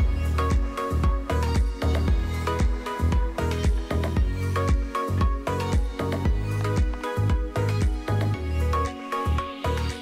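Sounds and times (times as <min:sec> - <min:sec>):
music with electronic beat: 0:00.0 - 0:10.0.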